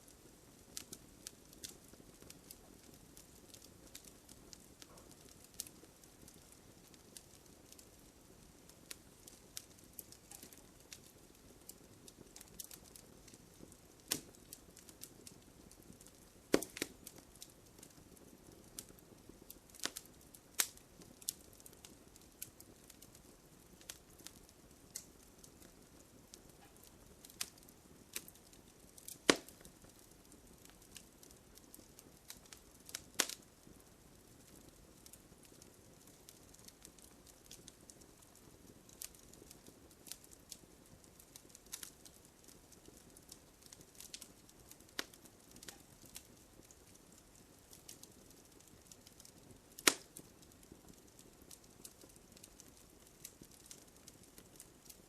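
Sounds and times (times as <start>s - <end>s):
faint low hiss: 0.0s - 55.0s
wood fire crackling and popping: 0.0s - 55.0s.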